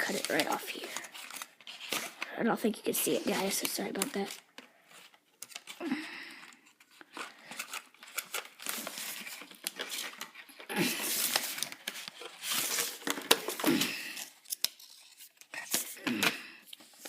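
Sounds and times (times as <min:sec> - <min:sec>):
plastic packaging crinkling: 0:00.0 - 0:05.8, 0:06.7 - 0:16.0.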